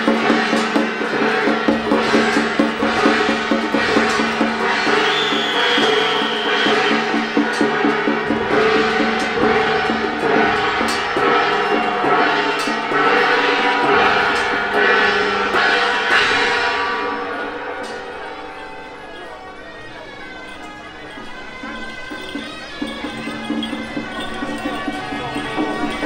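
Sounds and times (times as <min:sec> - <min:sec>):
cymbals crashing: 0:00.0 - 0:26.0
gongs ringing: 0:00.0 - 0:26.0
percussion band playing: 0:00.0 - 0:26.0.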